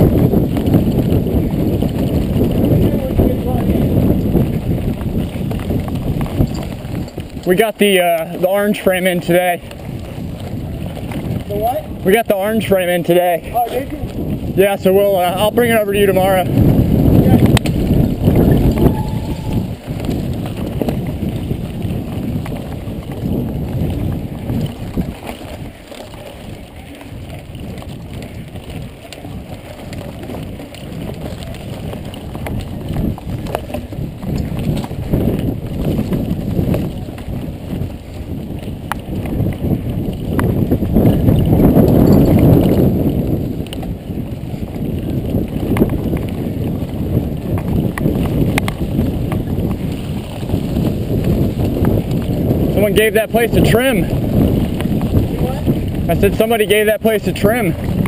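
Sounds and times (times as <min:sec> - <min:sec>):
bike knocking and rattling: 0:00.0 - 0:58.0
bike tyre noise on dirt: 0:00.0 - 0:58.0
wind rushing over microphone: 0:00.0 - 0:58.0.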